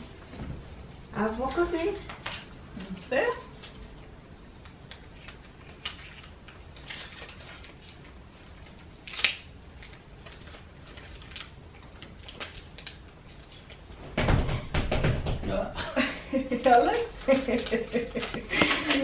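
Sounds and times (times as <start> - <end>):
crinkle: 0.0 - 14.1, 16.3 - 19.0.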